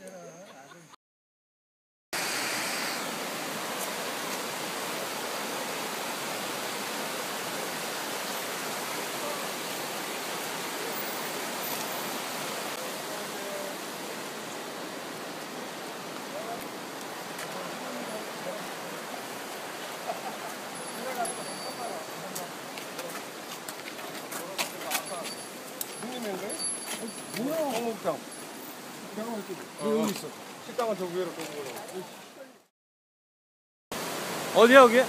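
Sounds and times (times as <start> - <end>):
stream rushing over rocks: 2.2 - 32.4, 34.0 - 35.0.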